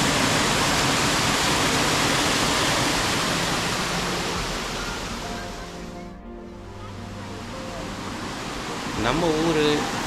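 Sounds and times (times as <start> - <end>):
water rushing over rocks: 0.0 - 6.0, 7.0 - 10.0.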